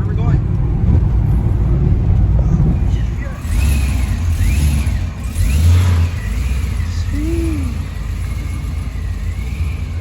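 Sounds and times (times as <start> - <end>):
high engine whine: 0.0 - 10.0
car engine revving: 1.7 - 10.0.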